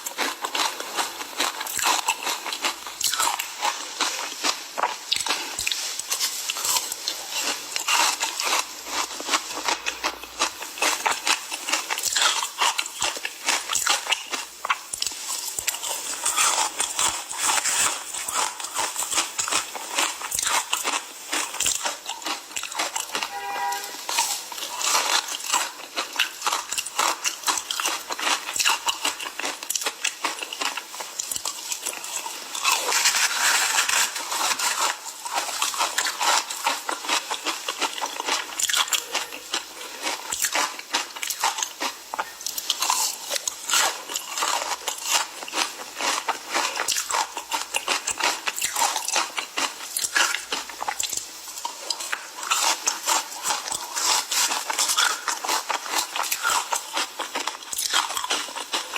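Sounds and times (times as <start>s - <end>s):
ice crunching being chewed: 0.0s - 58.9s.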